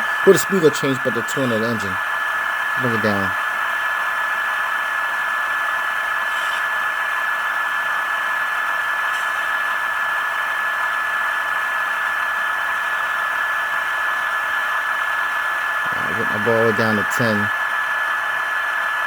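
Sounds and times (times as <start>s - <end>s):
fan-like rush with high whine: 0.0s - 19.0s.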